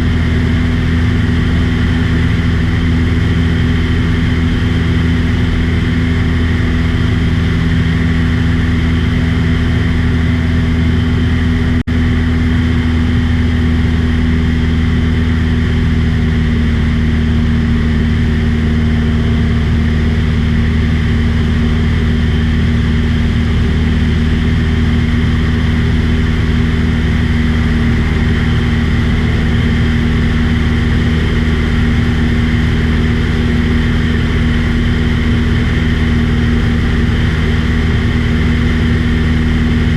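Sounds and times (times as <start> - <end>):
small aircraft engine droning: 0.0 - 39.9.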